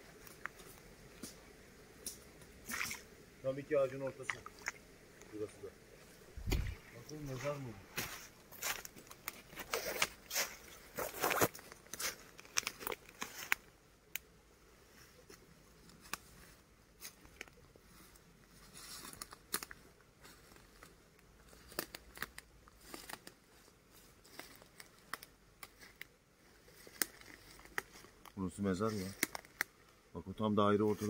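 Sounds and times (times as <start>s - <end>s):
rustling and crackles: 0.0s - 3.1s, 3.7s - 31.0s.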